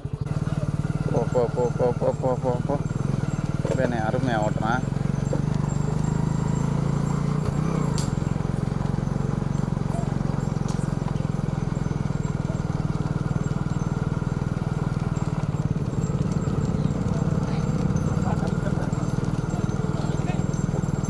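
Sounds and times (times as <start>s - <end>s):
hooves running on dirt: 0.0s - 21.0s.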